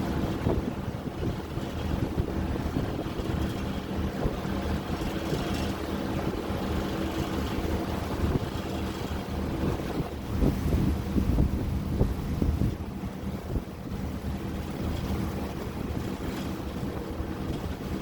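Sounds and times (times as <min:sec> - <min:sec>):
ferry engine humming: 0:00.0 - 0:18.0
water rushing: 0:00.0 - 0:18.0.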